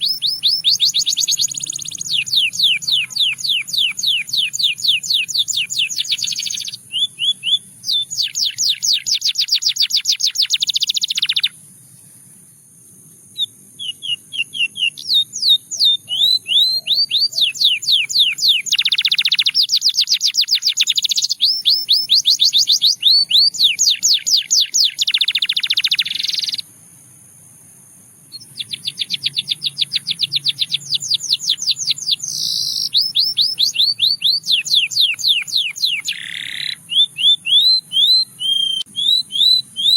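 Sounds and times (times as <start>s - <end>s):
canary singing trills: 0.0s - 12.3s, 13.3s - 26.7s, 28.3s - 39.9s.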